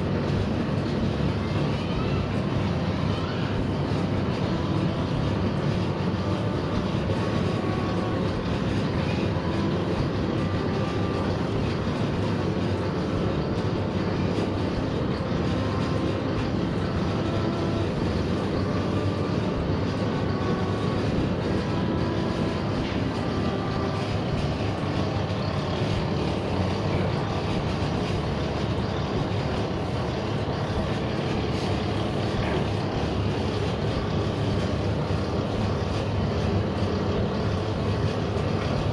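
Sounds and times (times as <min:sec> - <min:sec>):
faint whining tones: 0:00.0 - 0:38.9
machine mechanical drone: 0:00.0 - 0:38.9.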